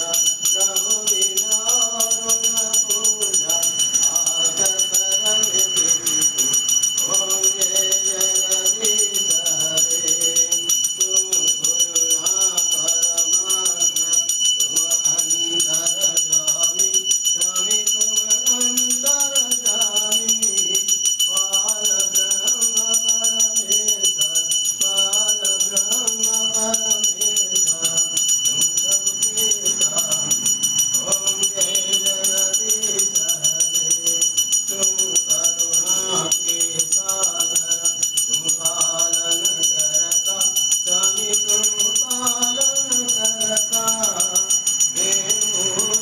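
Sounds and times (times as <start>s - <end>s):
devotional singing with music: 0.0s - 46.0s
high ringing with rapid beat: 0.0s - 46.0s.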